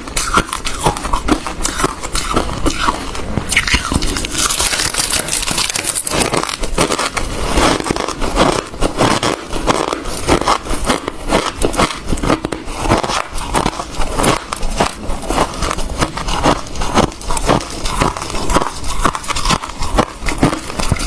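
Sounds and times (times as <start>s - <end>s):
person chewing ice: 0.0s - 21.0s.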